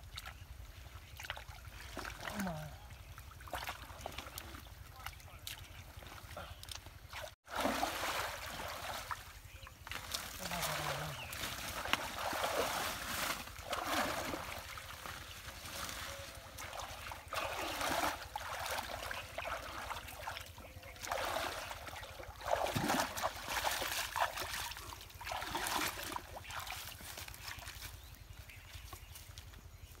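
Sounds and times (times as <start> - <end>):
muddy water sloshing and splashing: 0.0 - 29.0.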